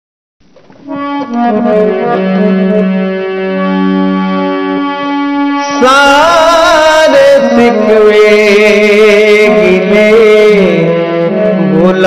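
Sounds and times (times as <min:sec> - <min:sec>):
sustained melody instrument: 0:00.7 - 0:12.0.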